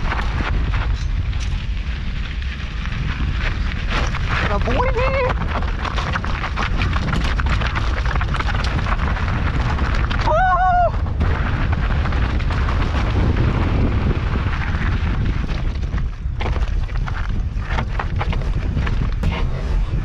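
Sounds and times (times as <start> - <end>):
bike rattling over rocks: 0.0 - 20.0
tyres crunching over stones: 0.0 - 20.0
wind buffeting microphone: 0.0 - 20.0.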